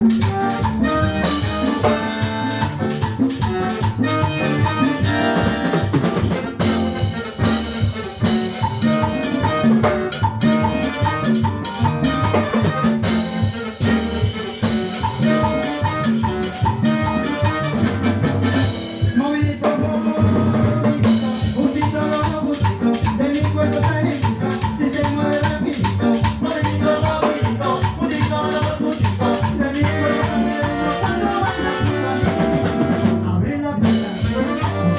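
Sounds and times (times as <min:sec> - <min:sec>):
drum kit and percussion beat: 0:00.0 - 0:34.9
latin dance orchestra: 0:00.0 - 0:34.9.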